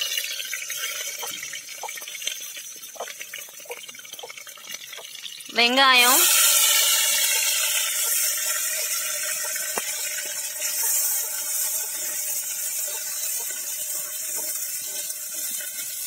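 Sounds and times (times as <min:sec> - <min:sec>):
shallots sizzling in hot oil: 0:00.0 - 0:16.0
wooden spatula stirring: 0:00.8 - 0:05.1, 0:06.2 - 0:16.0.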